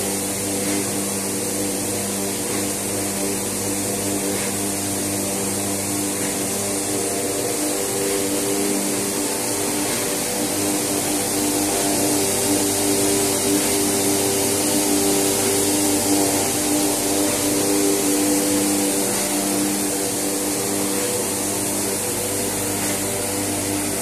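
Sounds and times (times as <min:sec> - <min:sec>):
machine running with humming drone: 0:00.0 - 0:24.0.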